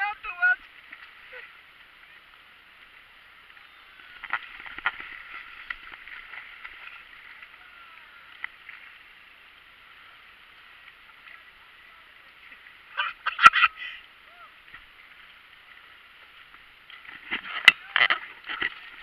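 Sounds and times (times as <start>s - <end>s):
seawater lapping and sloshing: 0.0s - 19.0s.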